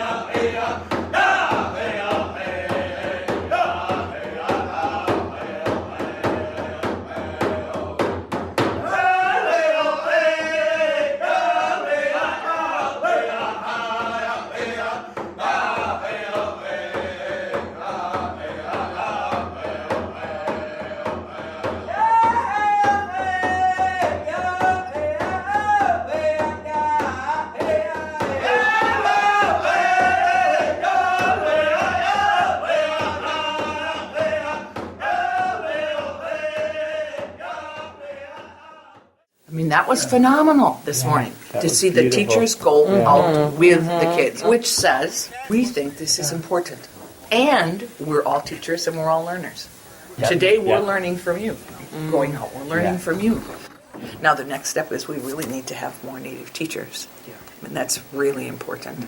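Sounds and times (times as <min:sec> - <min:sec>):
male voices chanting together: 0:00.0 - 0:39.1, 0:39.8 - 0:48.1, 0:49.7 - 0:54.3.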